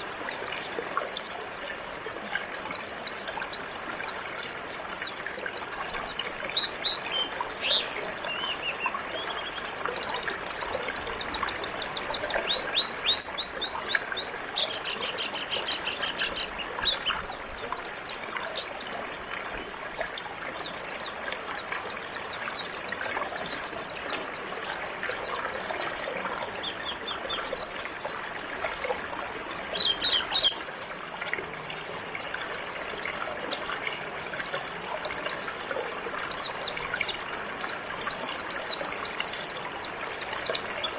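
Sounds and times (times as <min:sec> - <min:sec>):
birds chirping and twittering: 0:00.0 - 0:40.9
river water trickling: 0:00.0 - 0:40.9.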